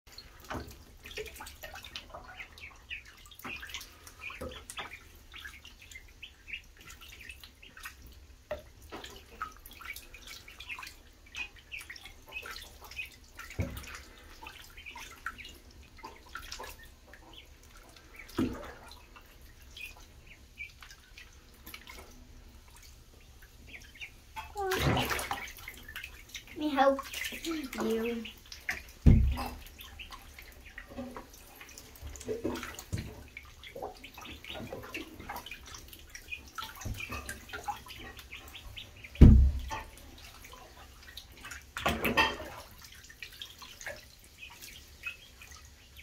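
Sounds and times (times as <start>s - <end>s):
water dripping and splashing: 0.1s - 46.0s
ducklings peeping: 0.2s - 46.0s.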